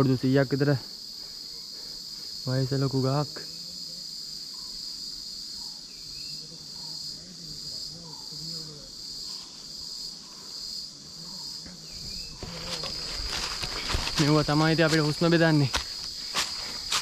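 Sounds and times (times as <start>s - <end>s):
cicadas shrilling: 0.0s - 17.0s.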